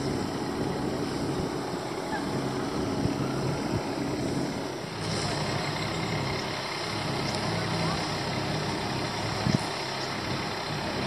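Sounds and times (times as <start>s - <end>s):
continuous rushing noise: 0.0s - 11.0s
engine running at low speed: 0.0s - 11.0s.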